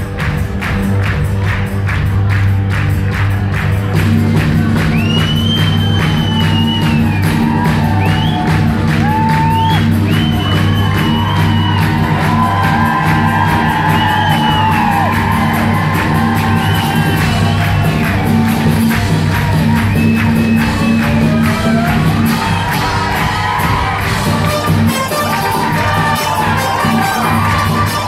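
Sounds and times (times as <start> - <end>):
drum beat: 0.0 - 28.0
loud bass line: 0.0 - 28.0.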